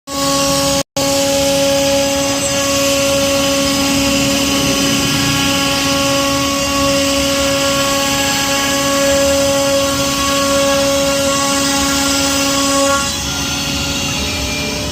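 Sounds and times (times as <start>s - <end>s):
cnc router humming: 0.1s - 14.9s.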